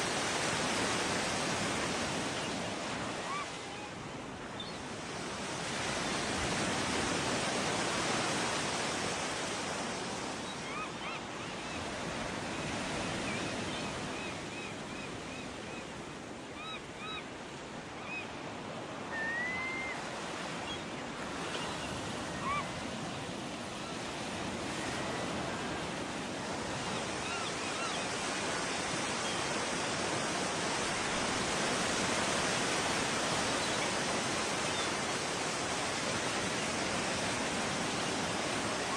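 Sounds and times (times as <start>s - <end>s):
ocean surf breaking on beach: 0.0s - 14.8s, 17.3s - 38.9s.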